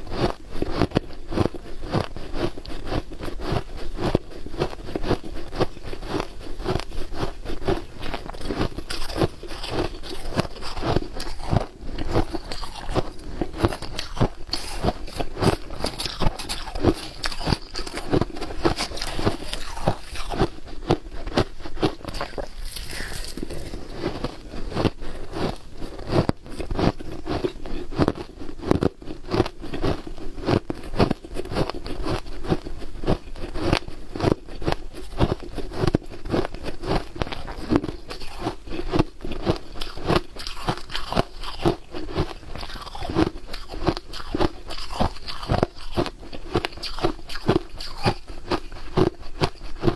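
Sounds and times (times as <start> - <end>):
person chewing ice: 0.0 - 49.9.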